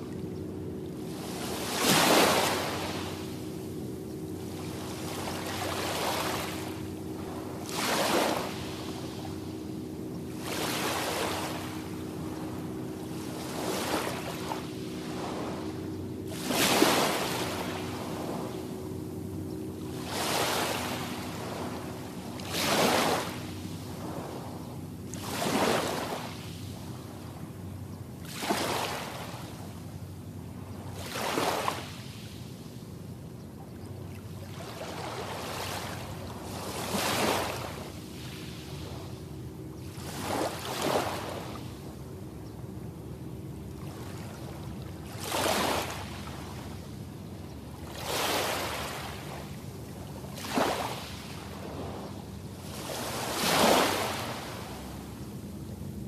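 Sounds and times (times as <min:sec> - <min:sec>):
small waves breaking on sand: 0:00.0 - 0:56.0
steady low hum: 0:00.0 - 0:56.0.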